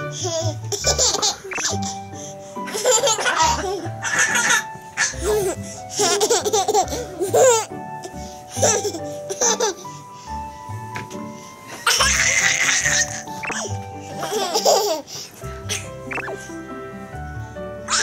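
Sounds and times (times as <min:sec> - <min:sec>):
babies laughing and giggling: 0:00.0 - 0:10.0, 0:11.2 - 0:16.6.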